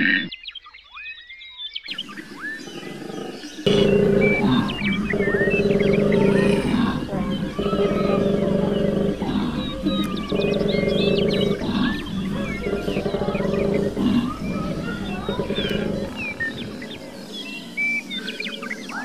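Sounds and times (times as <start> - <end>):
small birds chirping: 0.0 - 19.0
koala bellowing: 1.9 - 18.1.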